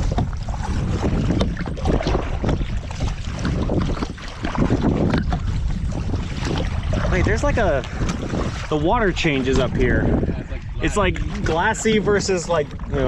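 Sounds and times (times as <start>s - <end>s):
paddles splashing in water: 0.0s - 13.0s
wind buffeting microphone: 0.0s - 13.0s.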